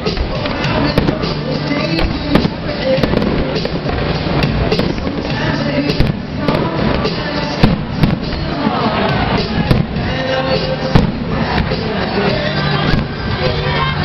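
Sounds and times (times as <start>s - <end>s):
fireworks banging and crackling: 0.0s - 14.0s
music playing: 0.0s - 14.0s.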